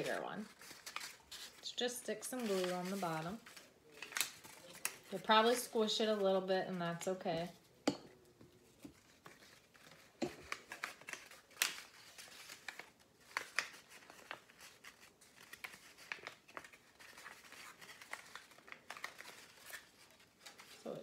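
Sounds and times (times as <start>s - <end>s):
paper tubes rustling and crinkling: 0.0s - 7.8s, 8.4s - 21.0s.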